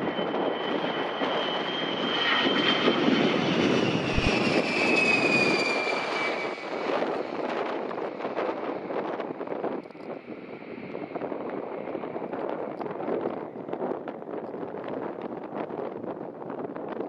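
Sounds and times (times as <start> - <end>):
jet aircraft passing low: 0.0 - 17.0.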